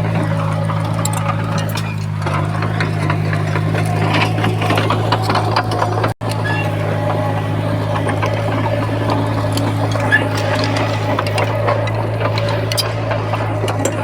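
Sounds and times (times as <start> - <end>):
bulldozer diesel engine running: 0.0 - 14.0
machine clanks and rattles: 0.0 - 14.0.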